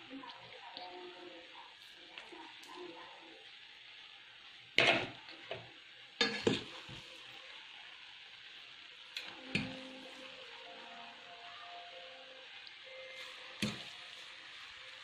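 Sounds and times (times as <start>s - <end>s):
noodles sizzling in a pot: 0.0s - 15.0s.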